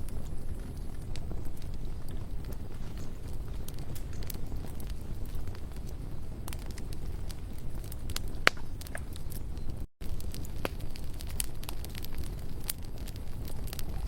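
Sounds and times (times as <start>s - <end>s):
campfire burning: 0.0s - 14.0s
wood crackling and popping: 0.0s - 14.0s.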